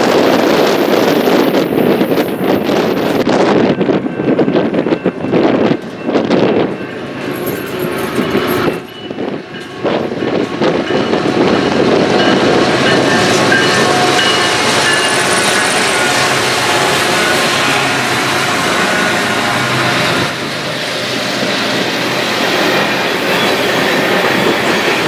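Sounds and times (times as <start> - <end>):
diesel locomotives running: 0.0 - 25.0
train wheels rolling on rails: 0.0 - 25.0
wind gusting on microphone: 0.0 - 25.0.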